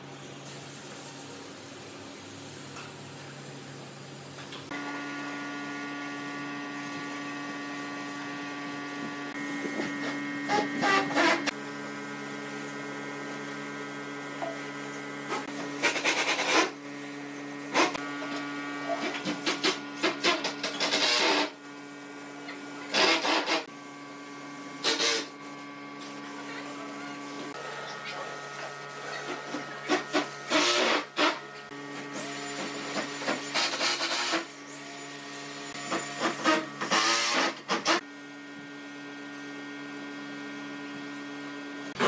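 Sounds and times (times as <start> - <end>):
steady mechanical hum: 0.0 - 42.0.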